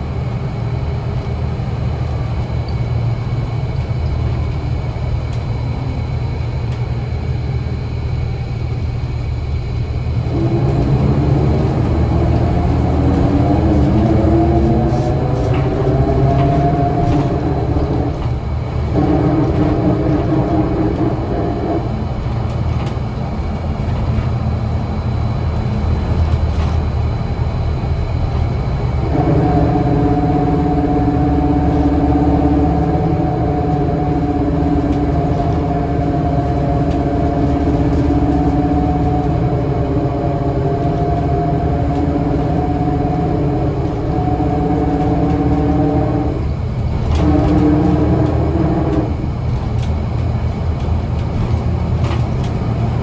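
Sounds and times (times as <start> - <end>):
bus engine rumble: 0.0 - 53.0
pitched multi-tone drone: 3.8 - 49.9.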